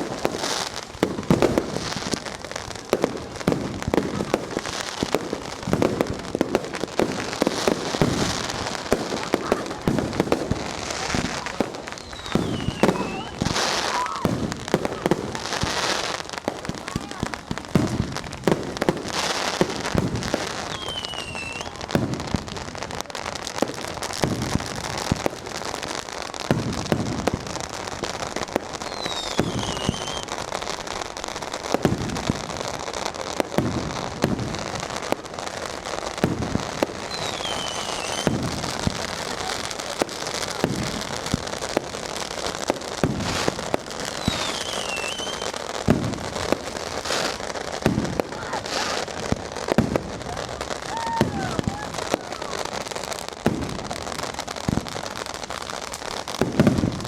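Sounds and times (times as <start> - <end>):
firecrackers crackling: 0.0 - 57.0
heavy firework bangs: 0.0 - 57.0
whistling firework: 0.0 - 57.0.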